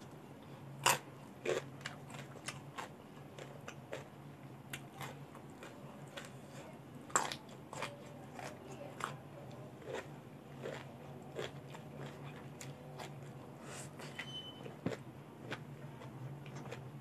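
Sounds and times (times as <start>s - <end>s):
faint low hum: 0.0s - 17.0s
crunching and chewing vegetables: 0.4s - 17.0s.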